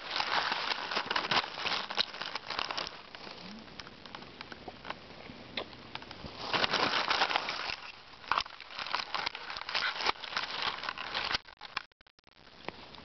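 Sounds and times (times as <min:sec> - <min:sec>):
dry leaves and twigs crackling: 0:00.0 - 0:05.0, 0:05.8 - 0:11.9.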